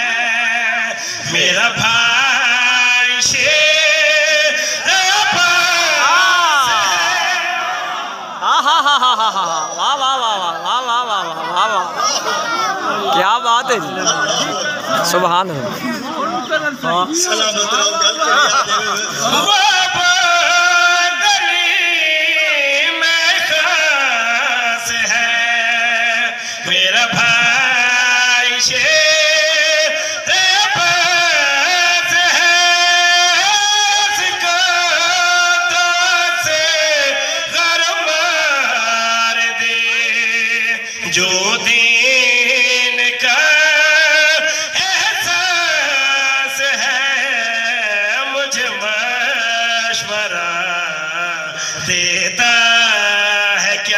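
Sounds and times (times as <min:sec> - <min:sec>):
man chanting into a microphone: 0:00.0 - 0:11.3, 0:16.8 - 0:53.9.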